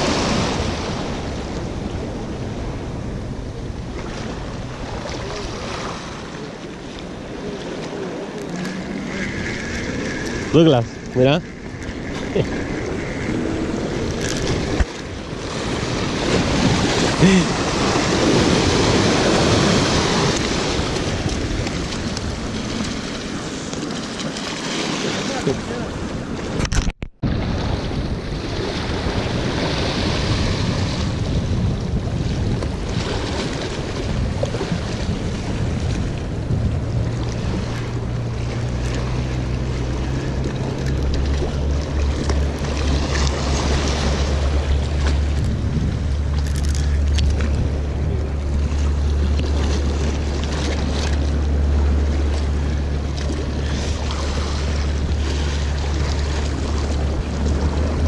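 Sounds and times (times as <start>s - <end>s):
boat engine drone: 0.0s - 26.7s, 27.3s - 58.0s
surf splashing against rocks: 0.0s - 58.0s
wind buffeting microphone: 0.0s - 58.0s.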